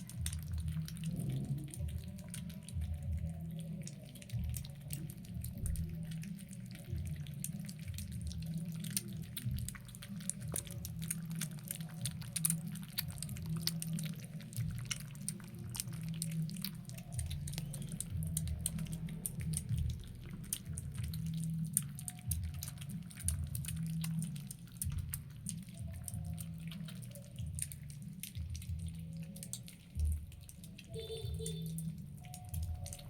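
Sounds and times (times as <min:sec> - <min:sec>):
kittens eating: 0:00.0 - 0:33.0.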